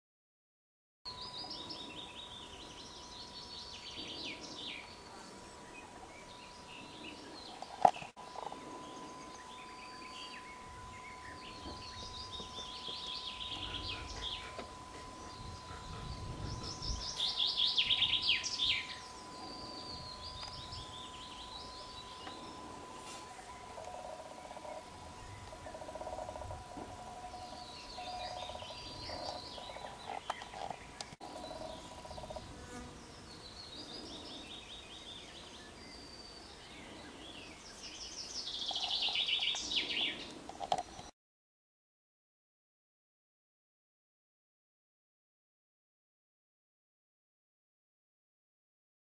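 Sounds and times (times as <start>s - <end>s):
faint steady whine: 1.1s - 41.1s
songbirds chirping and trilling: 1.1s - 41.1s.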